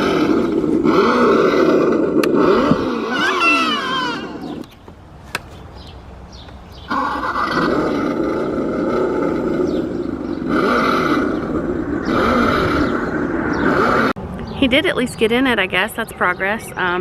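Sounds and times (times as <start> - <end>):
ride-on toy car motor running: 0.0 - 14.2.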